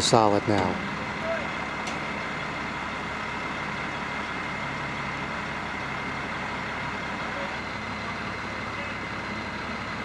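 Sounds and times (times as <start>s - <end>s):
crane engine running: 0.0s - 10.0s.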